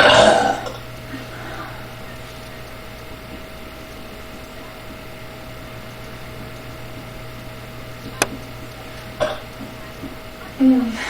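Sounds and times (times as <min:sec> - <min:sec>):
background hiss: 0:00.0 - 0:11.0
faint steady whine: 0:00.0 - 0:11.0
low electrical hum: 0:00.0 - 0:11.0.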